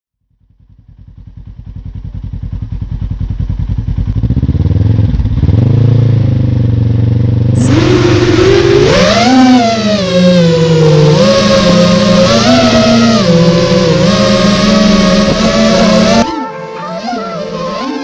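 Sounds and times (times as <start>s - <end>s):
engine running and revving: 0.3s - 18.0s.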